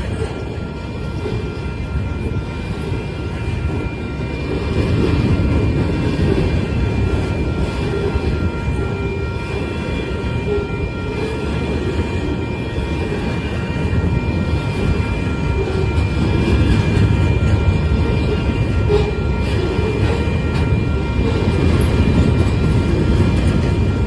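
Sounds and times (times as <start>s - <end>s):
high ringing tones: 0.0s - 24.0s
train wheels rumbling on track: 0.0s - 24.0s.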